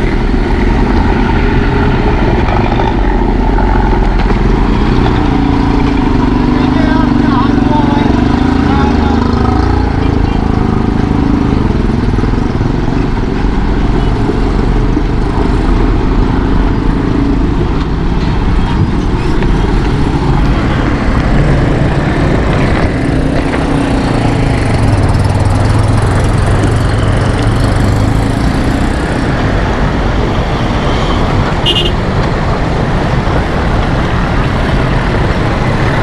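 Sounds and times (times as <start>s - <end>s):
motorcycle engine running: 0.0s - 36.0s
road noise: 0.0s - 36.0s.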